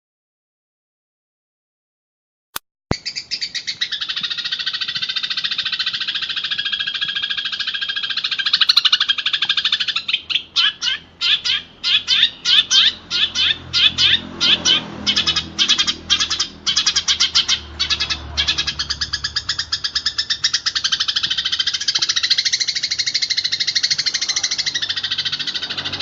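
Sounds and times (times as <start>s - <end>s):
songbird buzzy trill: 2.9s - 26.0s.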